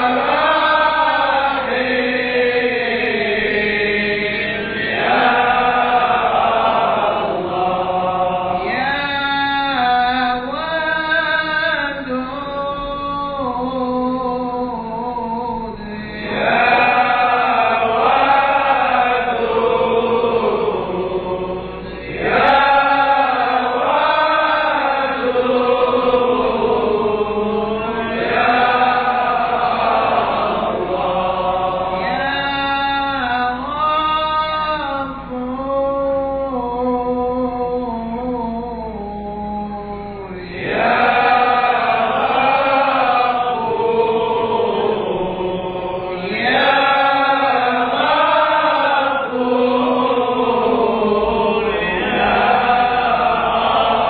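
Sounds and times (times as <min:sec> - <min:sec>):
man chanting into microphone: 0:07.2 - 0:29.8, 0:30.7 - 0:54.0.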